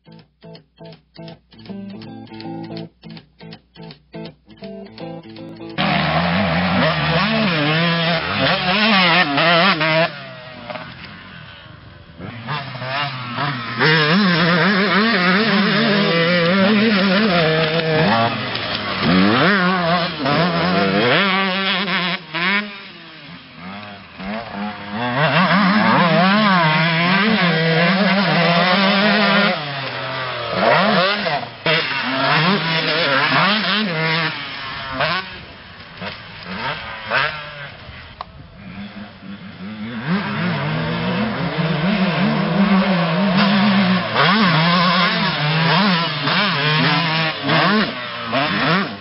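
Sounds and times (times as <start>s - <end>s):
dirt bike engine revving: 4.2s - 49.0s.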